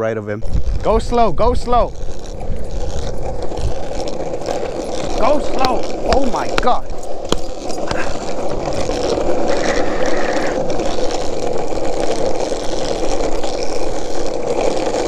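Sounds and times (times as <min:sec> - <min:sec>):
longboard wheels rolling on asphalt: 0:00.0 - 0:15.0.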